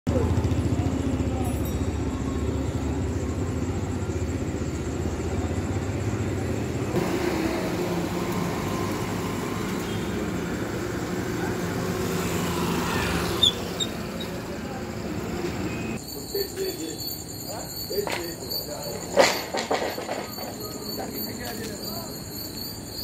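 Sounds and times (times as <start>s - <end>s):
street ambience low rumble: 0.1s - 23.0s.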